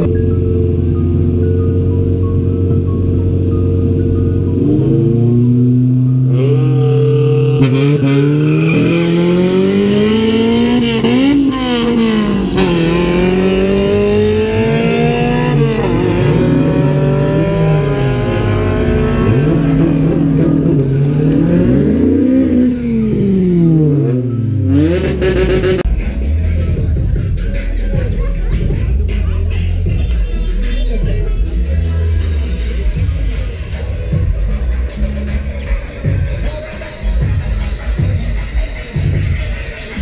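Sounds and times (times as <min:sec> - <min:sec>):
car engine revving: 0:00.0 - 0:40.0
cars passing: 0:02.6 - 0:40.0.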